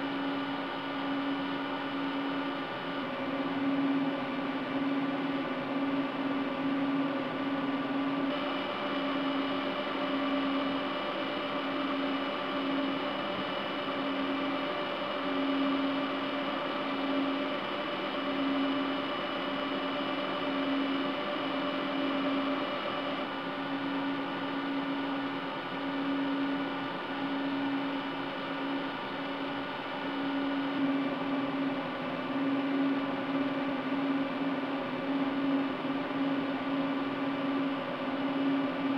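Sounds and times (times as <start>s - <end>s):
cooling fans whirring: 0.0s - 38.9s.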